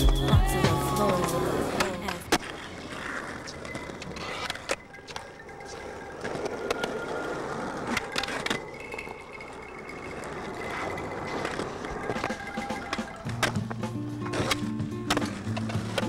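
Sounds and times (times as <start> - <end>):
skateboard wheels rolling on concrete: 0.0 - 16.0
skateboard clacks: 1.0 - 16.0.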